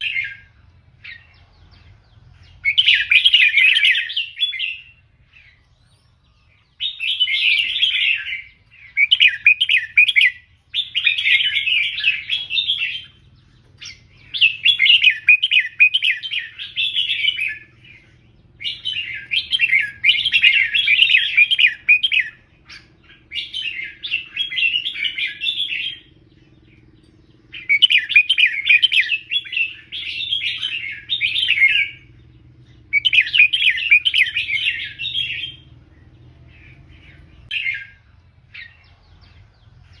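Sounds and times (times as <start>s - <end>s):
bulbul singing: 0.0s - 40.0s.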